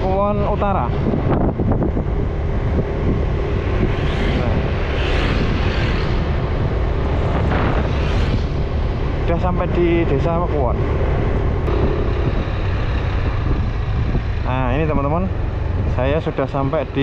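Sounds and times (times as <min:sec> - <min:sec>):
motorbike rumble: 0:00.0 - 0:17.0
tyres on road: 0:00.0 - 0:17.0
wind buffeting microphone: 0:00.0 - 0:17.0.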